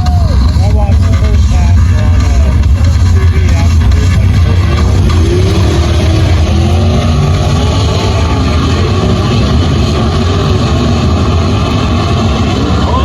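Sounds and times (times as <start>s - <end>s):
race car engines running: 0.0s - 13.0s.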